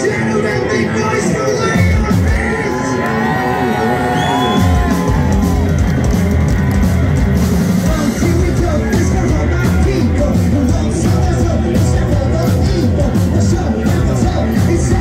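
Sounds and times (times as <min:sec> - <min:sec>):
electric bass guitar: 0:00.0 - 0:15.0
drum kit: 0:01.6 - 0:02.7, 0:04.0 - 0:15.0.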